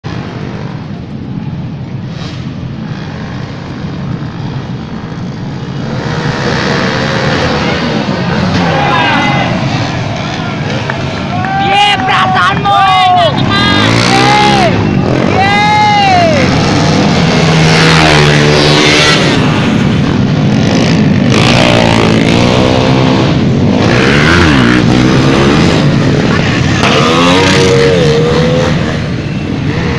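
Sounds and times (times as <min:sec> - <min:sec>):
racing motorcycle engines revving: 0:00.0 - 0:29.9.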